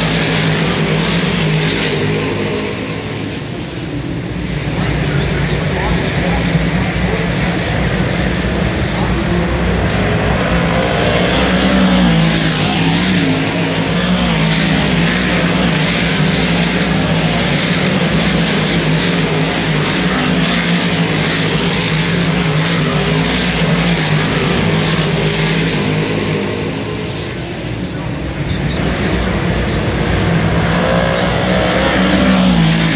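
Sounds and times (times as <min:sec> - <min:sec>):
race car engines droning: 0:00.0 - 0:32.9.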